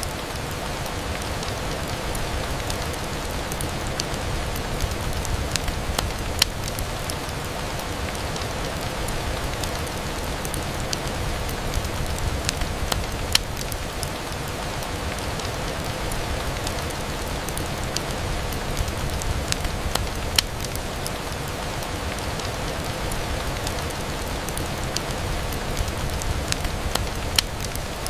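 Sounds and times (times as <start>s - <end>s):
rain on a window: 0.0s - 28.0s
raindrops ticking on glass: 0.1s - 28.0s.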